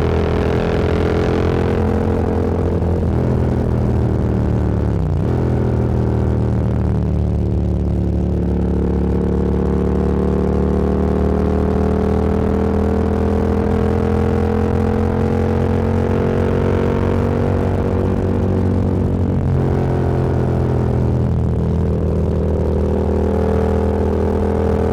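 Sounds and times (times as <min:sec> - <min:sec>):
motorcycle engine accelerating: 0:00.0 - 0:24.9.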